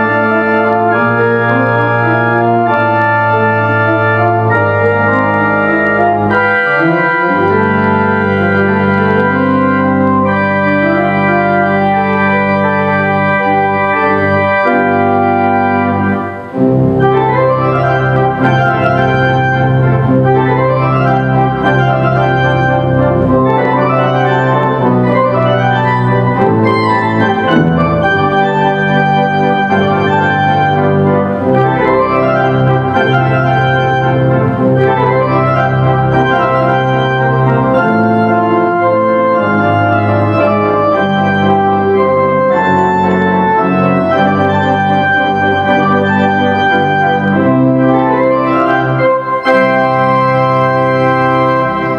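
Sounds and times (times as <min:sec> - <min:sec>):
church organ chords: 0:00.0 - 0:51.9.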